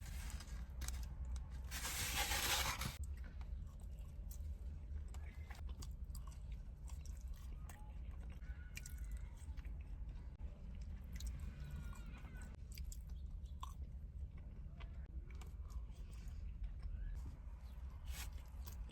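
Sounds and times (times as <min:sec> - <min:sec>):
chewing crispy fried chicken: 0:03.0 - 0:18.9.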